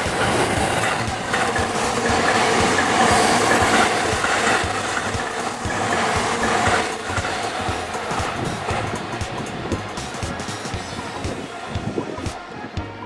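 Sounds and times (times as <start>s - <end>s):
train wheels knocking over rail joints: 0.0s - 12.5s
train cars rumbling: 0.0s - 13.0s.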